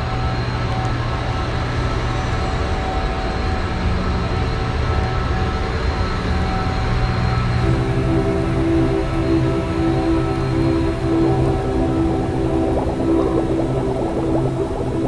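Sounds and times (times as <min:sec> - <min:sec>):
dense train-like noise: 0:00.0 - 0:15.0.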